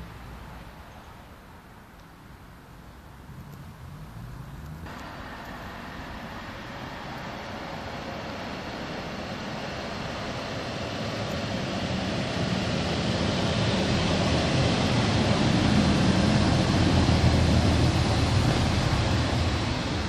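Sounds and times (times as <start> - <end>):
diesel train approaching: 3.4 - 20.0.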